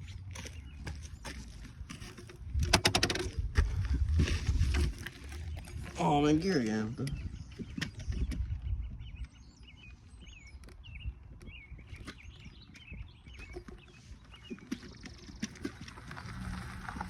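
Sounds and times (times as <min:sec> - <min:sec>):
small birds chirping: 0:00.0 - 0:02.2, 0:05.0 - 0:17.0.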